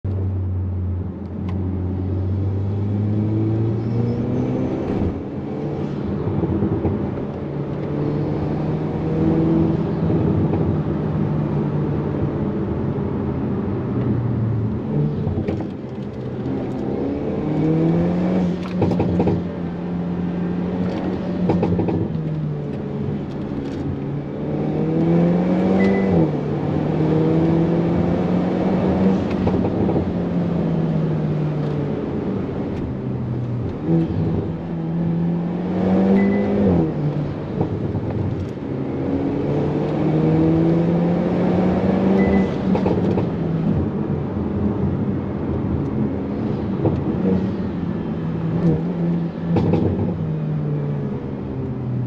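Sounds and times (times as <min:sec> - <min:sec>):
car engine accelerating: 0:00.1 - 0:52.0.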